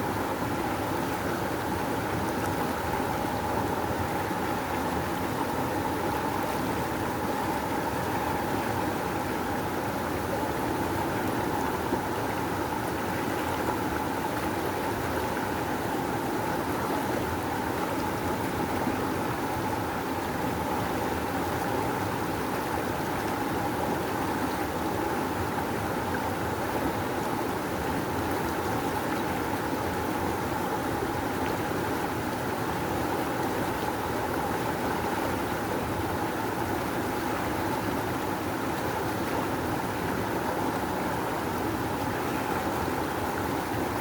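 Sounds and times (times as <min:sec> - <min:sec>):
rushing river water: 0:00.0 - 0:44.0.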